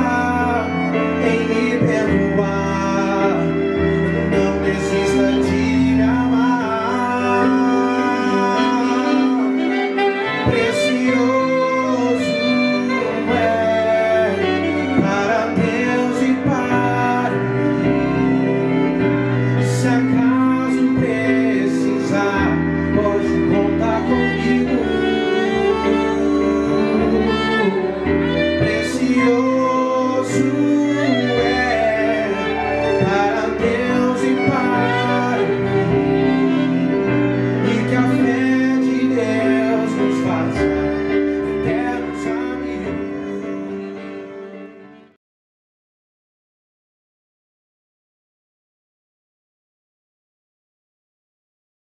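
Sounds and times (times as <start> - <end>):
man singing: 0.0 - 44.5
saxophone: 0.0 - 45.2
violin: 0.0 - 45.2.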